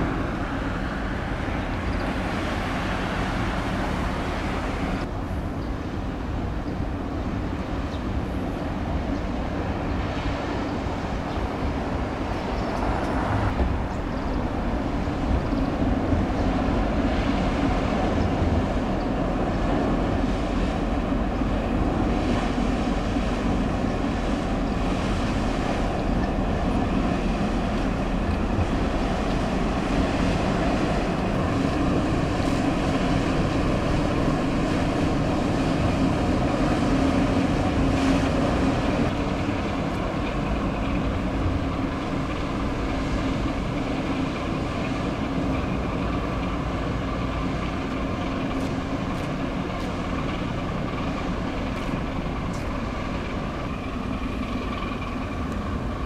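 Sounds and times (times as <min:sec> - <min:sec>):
boat diesel engine droning: 0:00.0 - 0:56.0
water wash: 0:00.0 - 0:56.0
wind on microphone: 0:00.0 - 0:56.0.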